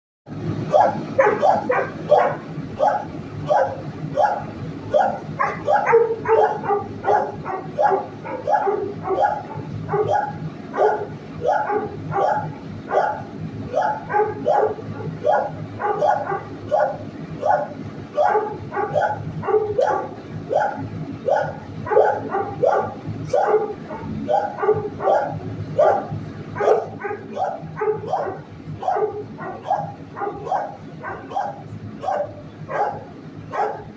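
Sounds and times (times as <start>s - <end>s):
dogs barking: 0.3s - 33.9s.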